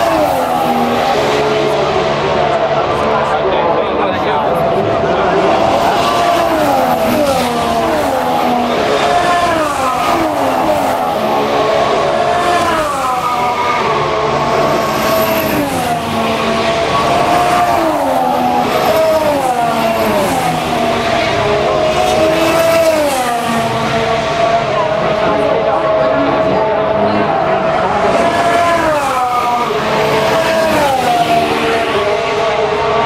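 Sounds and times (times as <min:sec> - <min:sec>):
racing cars passing at speed: 0:00.0 - 0:33.0.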